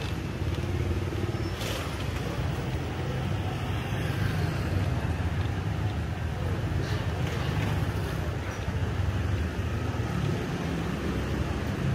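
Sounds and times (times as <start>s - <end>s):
passing cars and motorbikes: 0.0s - 11.9s.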